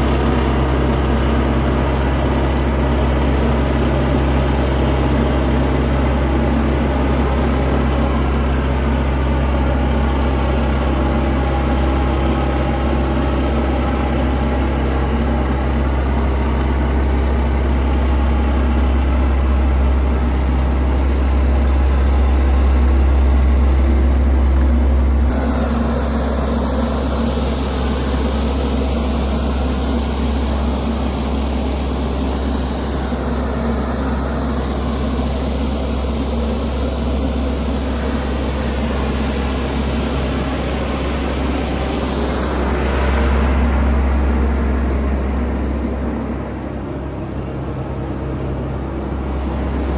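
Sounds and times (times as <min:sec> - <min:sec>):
combine harvester engine drone: 0:00.0 - 0:49.9
machinery noise: 0:00.0 - 0:49.9.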